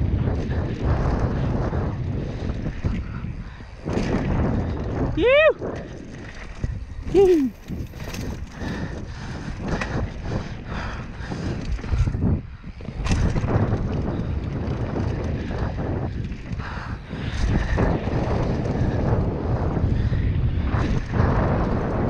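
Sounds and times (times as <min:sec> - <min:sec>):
bike rattling over bumps: 0:00.0 - 0:22.0
wind buffeting microphone: 0:00.0 - 0:22.0.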